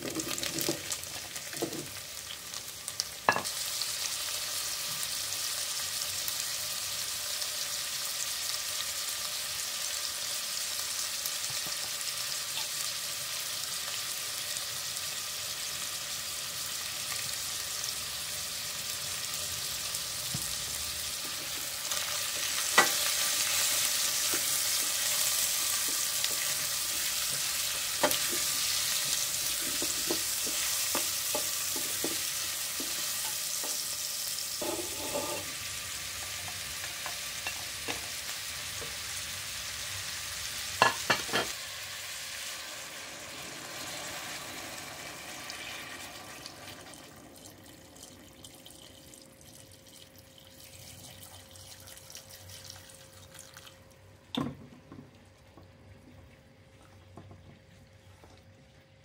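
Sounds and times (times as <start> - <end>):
vegetables sizzling in oil: 0.0 - 48.6.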